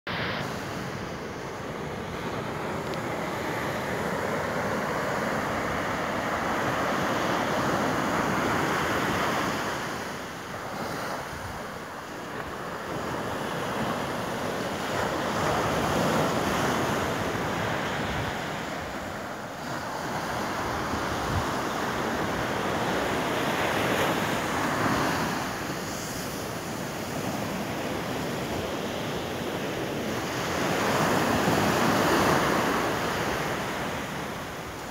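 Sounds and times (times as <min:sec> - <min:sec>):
surf breaking on a beach: 0:00.1 - 0:34.9
wind on the microphone: 0:00.1 - 0:34.9.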